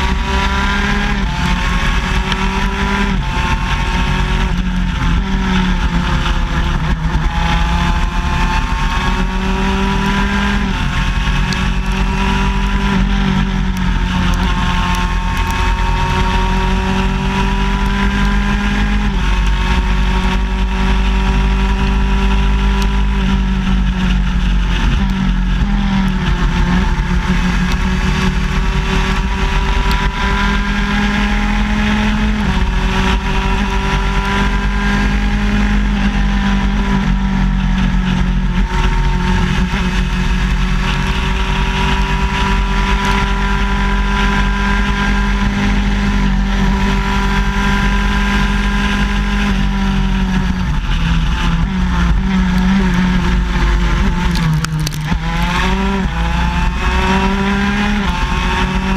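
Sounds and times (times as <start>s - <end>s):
kart engine under racing load: 0.0s - 58.9s.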